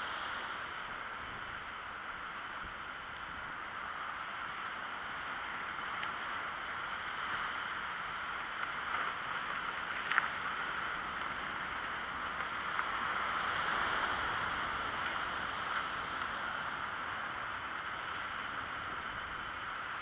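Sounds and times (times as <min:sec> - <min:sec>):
tyres rolling on pavement: 0:00.0 - 0:20.0.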